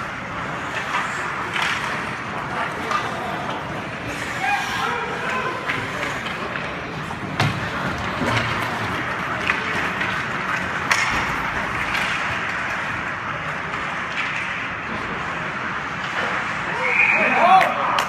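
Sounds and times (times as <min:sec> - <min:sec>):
hockey stick clacks: 0:00.0 - 0:04.4, 0:05.1 - 0:16.6.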